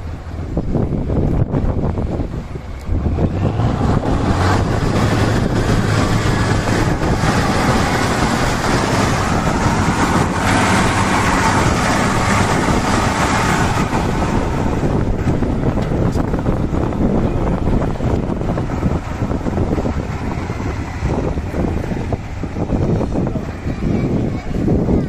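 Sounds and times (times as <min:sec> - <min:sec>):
loud rushing noise: 0:00.0 - 0:25.0
truck diesel engine under load: 0:00.0 - 0:25.0.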